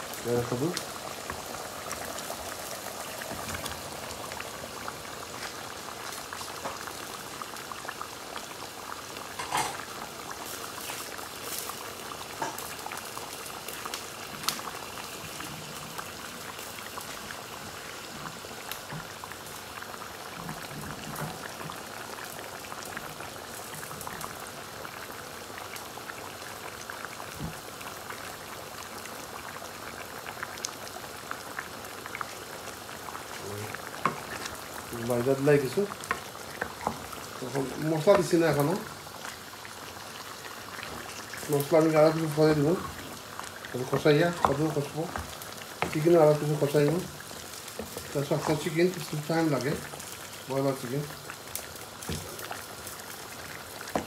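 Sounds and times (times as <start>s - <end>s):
curry bubbling and sizzling: 0.0s - 54.0s.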